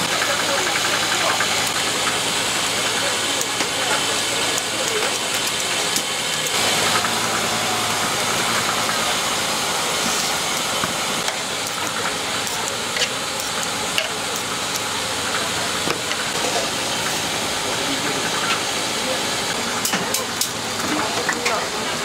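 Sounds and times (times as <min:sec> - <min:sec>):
busy street market din: 0:00.0 - 0:22.0.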